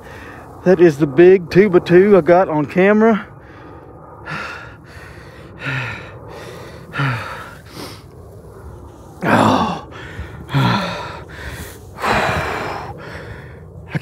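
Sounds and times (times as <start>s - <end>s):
man breathing heavily: 0.0s - 0.6s, 3.3s - 14.0s.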